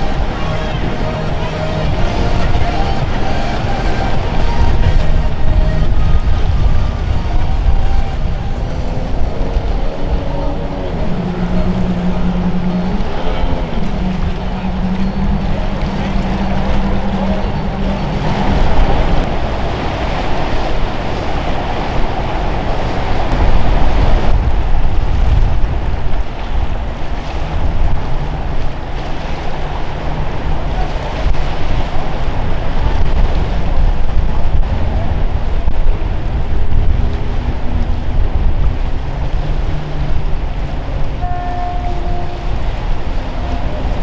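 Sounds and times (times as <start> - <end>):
boat engines droning: 0.0 - 44.0
waves washing: 0.0 - 44.0
wind buffeting microphone: 0.0 - 44.0.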